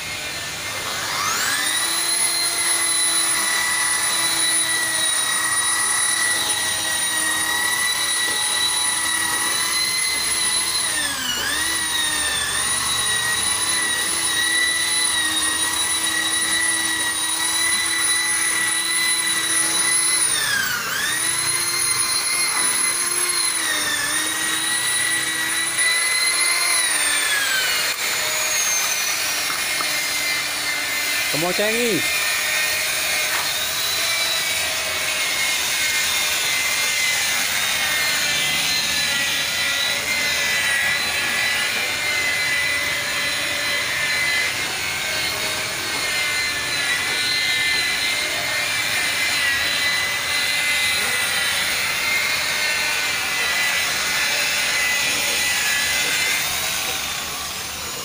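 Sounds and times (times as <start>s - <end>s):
car polisher motor whine: 0.0s - 58.0s.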